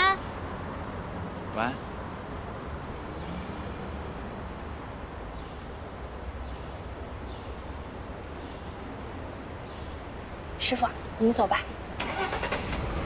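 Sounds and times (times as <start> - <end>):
low rumble and hiss of night ambience: 0.0 - 13.0.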